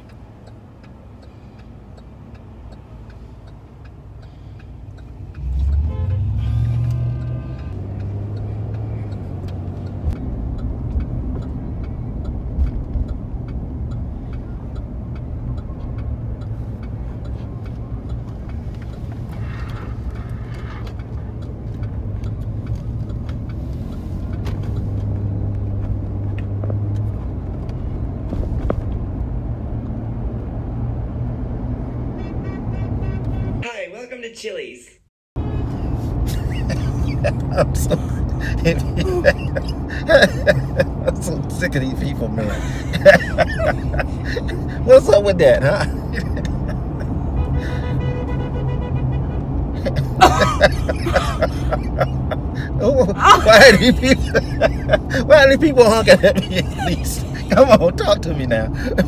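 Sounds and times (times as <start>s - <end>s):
car engine and road rumble: 0.0s - 34.7s, 35.4s - 59.0s.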